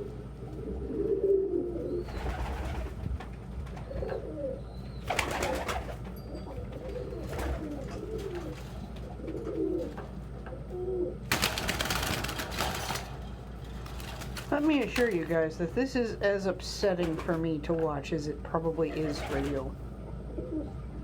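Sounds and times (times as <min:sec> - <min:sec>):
pigeons cooing: 0:00.0 - 0:17.5, 0:18.7 - 0:21.0.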